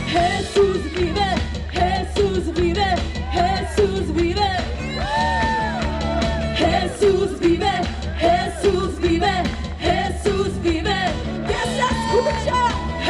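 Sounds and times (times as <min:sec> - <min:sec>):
bass: 0:00.0 - 0:13.0
drums: 0:00.0 - 0:13.0
person singing: 0:00.0 - 0:13.0.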